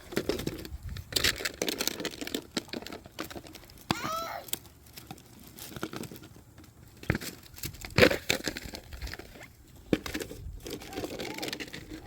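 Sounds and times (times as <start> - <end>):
rustling and handling noises: 0.0 - 12.0.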